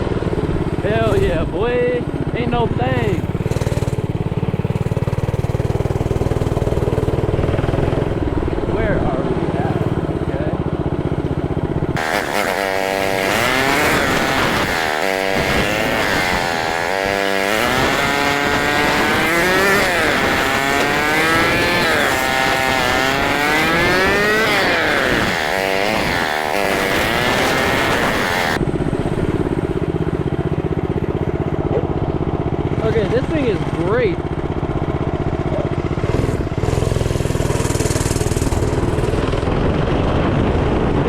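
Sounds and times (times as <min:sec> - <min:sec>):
small bike engine revving: 0:00.0 - 0:41.0.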